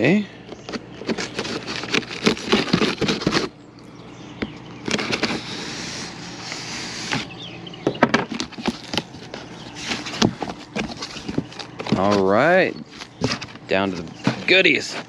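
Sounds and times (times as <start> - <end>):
tape and cardboard crackling: 0.4 - 3.6, 4.4 - 15.0.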